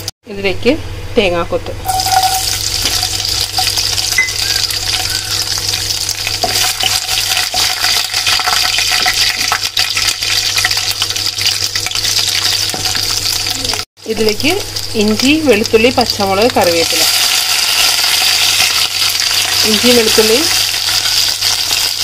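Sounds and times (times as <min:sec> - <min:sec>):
food sizzling in hot oil: 0:01.8 - 0:22.0.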